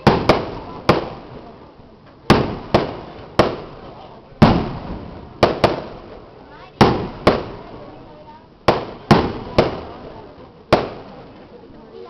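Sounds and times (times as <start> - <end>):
fireworks bursting: 0.0 - 11.8.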